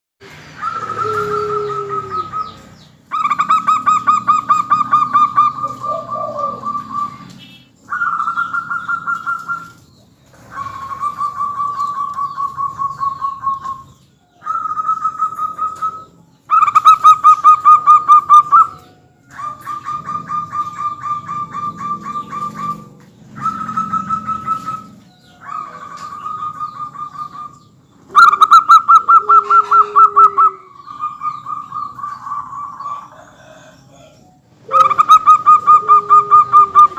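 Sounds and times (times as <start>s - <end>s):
doves trilled cooing: 0.2s - 36.9s.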